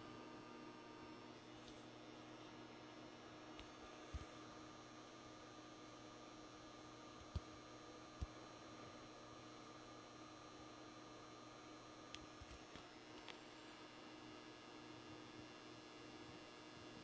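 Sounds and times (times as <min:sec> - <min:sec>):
lamp electrical hum: 0:00.0 - 0:17.0.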